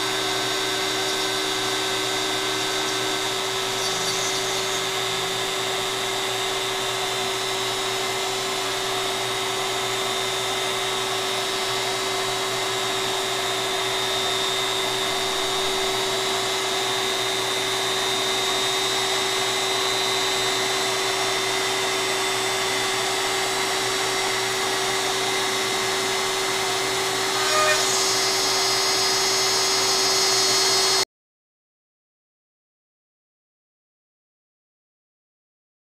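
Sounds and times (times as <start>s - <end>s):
router spindle whining: 0.0s - 31.0s.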